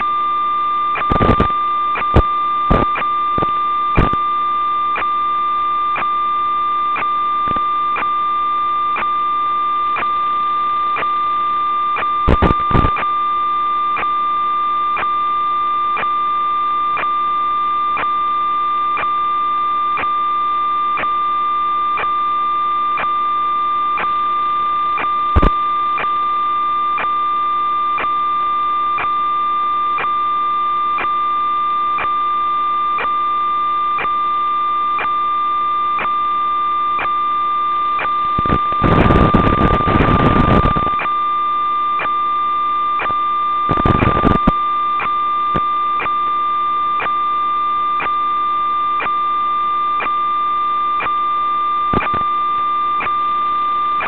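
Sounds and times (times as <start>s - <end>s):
steady electronic tone: 0.0s - 54.0s.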